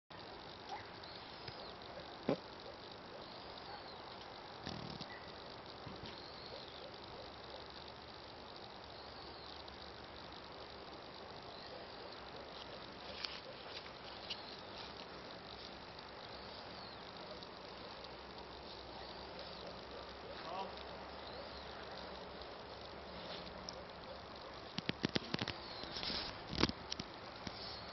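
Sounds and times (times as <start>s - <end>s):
faint insect chirping: 0.1s - 27.9s
steady outdoor hiss: 0.1s - 27.9s.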